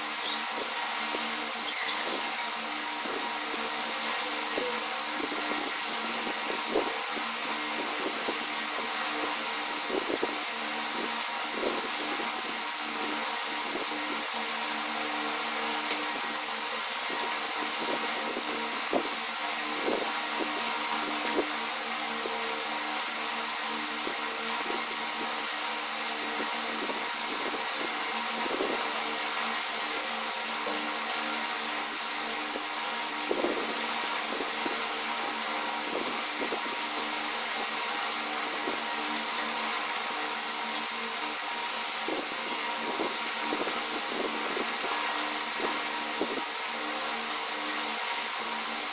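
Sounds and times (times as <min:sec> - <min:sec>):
mechanical hum: 0:00.0 - 0:48.9.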